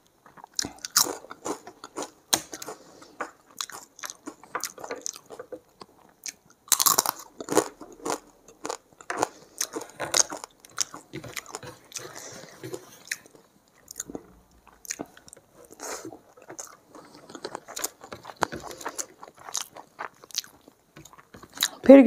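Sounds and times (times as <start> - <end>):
crisp crunchy chewing: 0.0 - 21.9.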